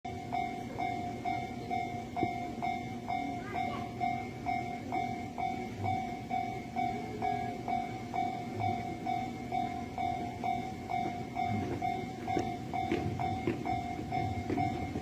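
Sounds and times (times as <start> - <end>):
level crossing bell ringing: 0.1 - 15.0.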